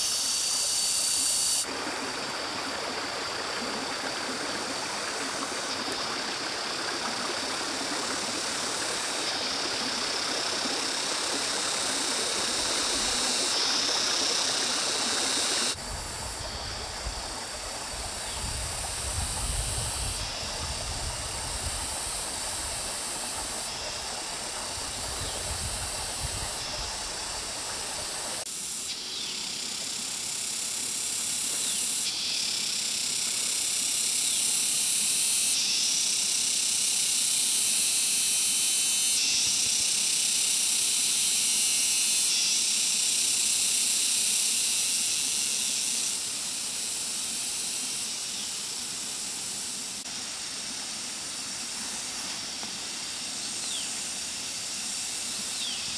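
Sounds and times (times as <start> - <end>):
cicadas buzzing: 0.0 - 55.9.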